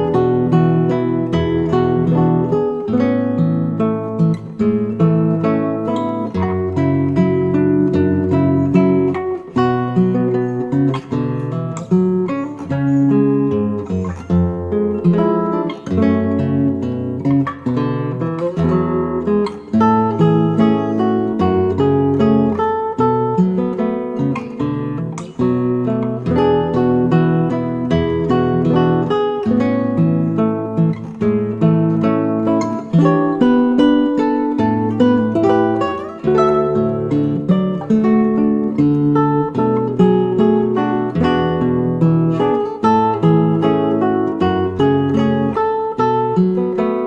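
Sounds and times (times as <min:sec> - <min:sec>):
acoustic guitar strumming chords: 0:00.0 - 0:47.0.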